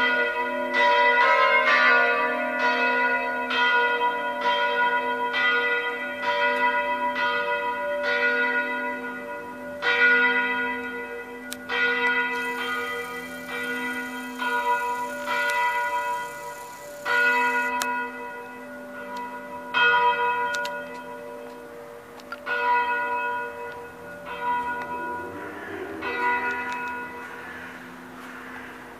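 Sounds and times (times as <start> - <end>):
long bell hum: 0.0 - 21.5, 22.5 - 27.5
church bells ringing: 0.0 - 28.9.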